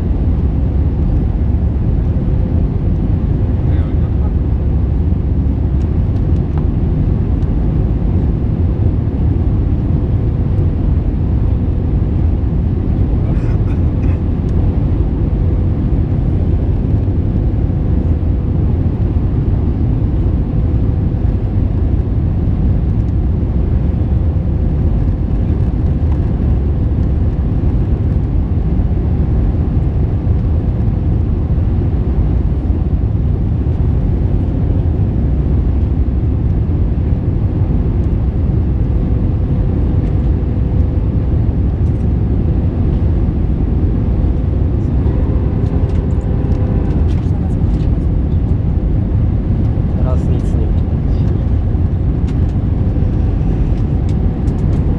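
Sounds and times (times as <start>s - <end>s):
aircraft engines rumbling: 0.0s - 54.9s.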